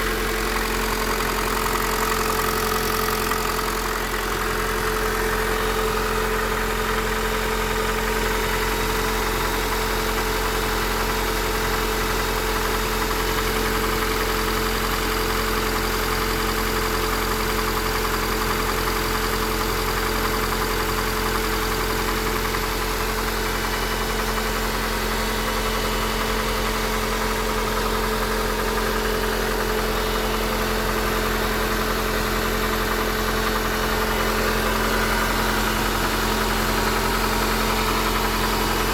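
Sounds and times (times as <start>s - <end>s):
car engine running with knocking: 0.0s - 38.9s.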